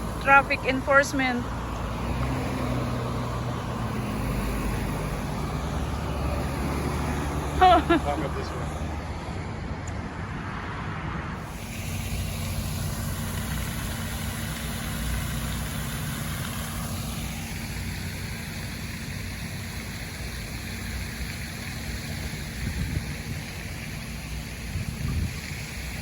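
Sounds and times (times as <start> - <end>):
steady hum: 0.0 - 9.1, 11.4 - 26.0
vehicle engine idling: 0.0 - 10.1, 11.4 - 26.0.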